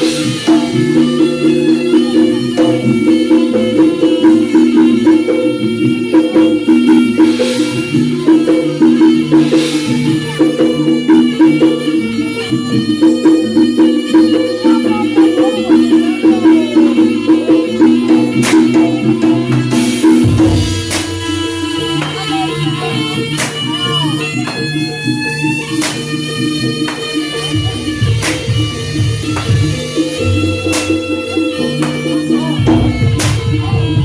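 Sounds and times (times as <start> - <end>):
gamelan ensemble playing: 0.0 - 34.0.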